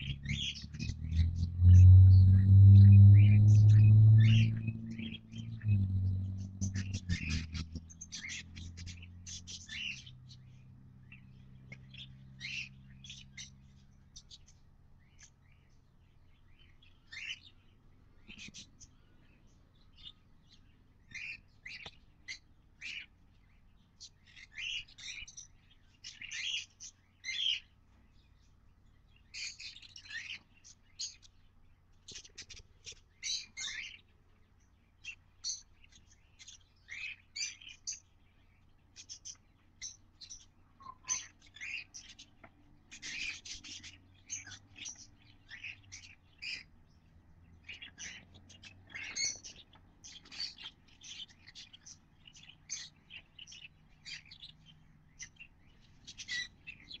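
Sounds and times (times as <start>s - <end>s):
chicks cheeping: 0.0s - 57.0s.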